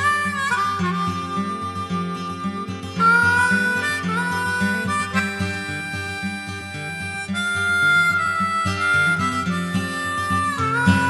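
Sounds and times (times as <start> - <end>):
guitar accompaniment: 0.0 - 11.0
harmonica tune: 0.0 - 11.0.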